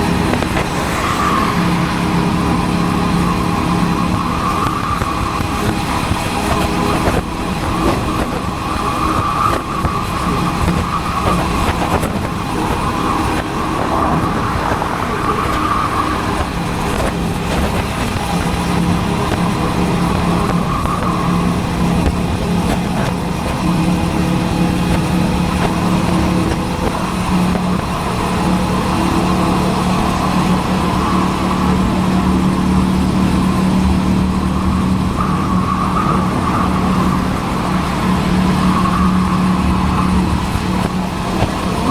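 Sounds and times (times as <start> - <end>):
motorcycle engine running: 0.0 - 41.9
road and wind noise: 0.0 - 41.9.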